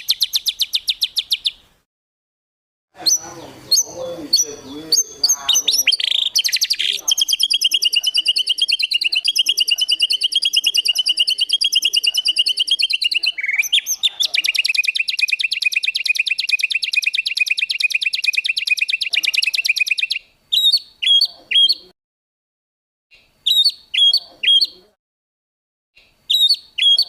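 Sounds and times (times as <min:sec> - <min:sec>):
bird downward-swooping calls: 0:00.0 - 0:01.6, 0:03.0 - 0:21.9, 0:23.4 - 0:24.9, 0:26.3 - 0:27.0
songbird trilling: 0:00.0 - 0:01.6, 0:03.0 - 0:21.9, 0:23.4 - 0:24.9, 0:26.3 - 0:27.0.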